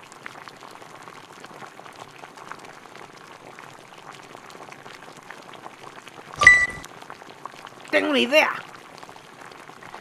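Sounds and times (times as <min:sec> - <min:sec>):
potatoes frying in oil: 0:00.0 - 0:10.0.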